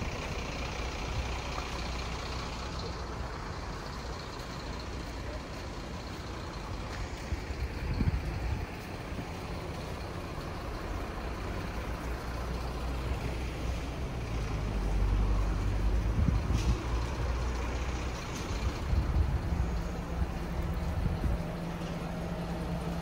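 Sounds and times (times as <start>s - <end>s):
heavy vehicle engine rumbling: 0.0s - 23.0s.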